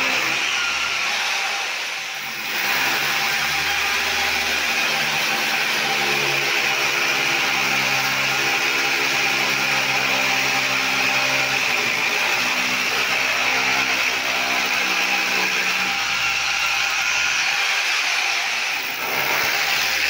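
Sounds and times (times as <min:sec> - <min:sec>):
electric drill boring into wall: 0:00.0 - 0:20.0.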